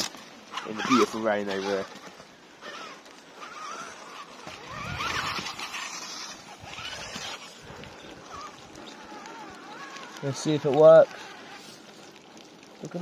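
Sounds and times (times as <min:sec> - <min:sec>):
toy car motor whining: 0:00.0 - 0:12.2
wheels rustling over leaves: 0:00.0 - 0:13.0.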